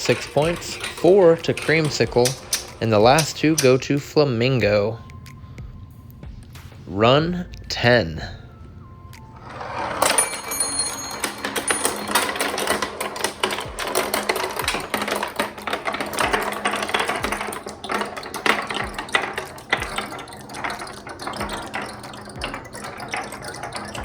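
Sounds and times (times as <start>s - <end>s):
marbles clattering down track: 0.0s - 24.0s.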